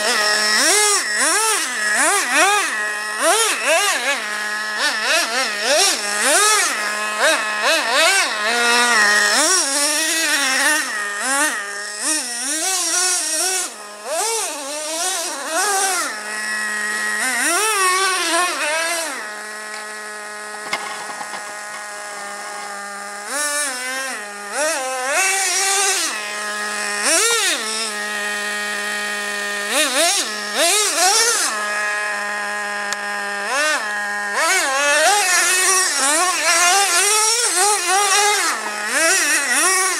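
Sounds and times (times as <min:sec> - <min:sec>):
toy nitro engine buzzing: 0:00.0 - 0:39.9.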